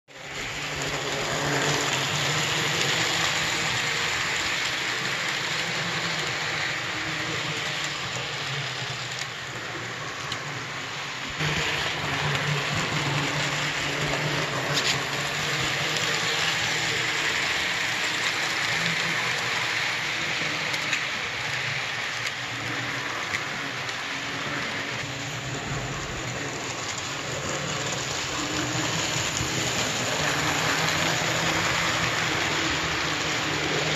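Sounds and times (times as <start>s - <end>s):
model train whirring on rails: 0.1s - 33.9s.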